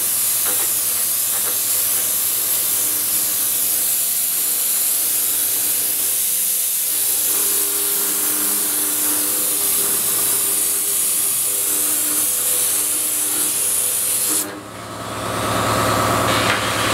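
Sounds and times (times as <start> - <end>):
milling machine cutting hiss: 0.0 - 14.6.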